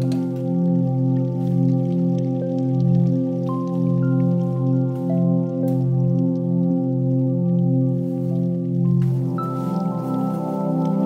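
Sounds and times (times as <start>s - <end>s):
calm new-age music: 0.0s - 11.0s.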